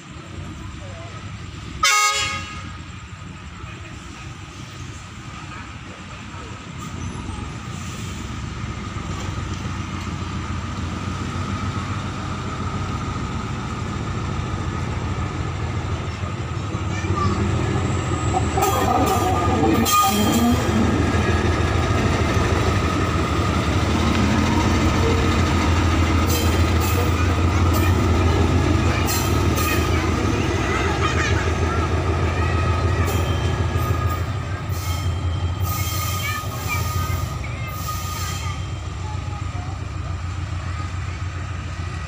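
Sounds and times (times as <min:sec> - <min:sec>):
diesel locomotive engine: 0:00.0 - 0:42.0
wheels clicking on track: 0:04.9 - 0:42.0.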